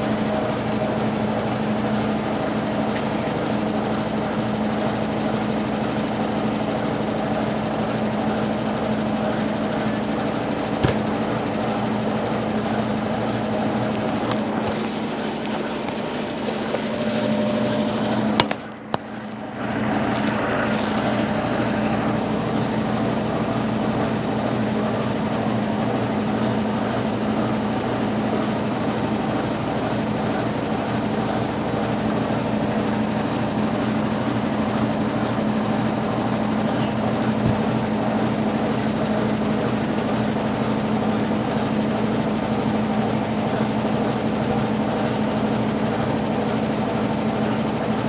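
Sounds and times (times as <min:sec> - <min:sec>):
churning wash water: 0:00.0 - 0:48.0
washing machine motor hum: 0:00.0 - 0:48.0.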